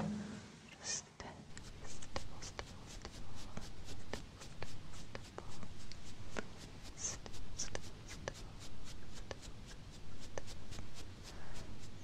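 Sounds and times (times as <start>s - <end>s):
makeup brush scratchy taps: 1.5s - 12.0s.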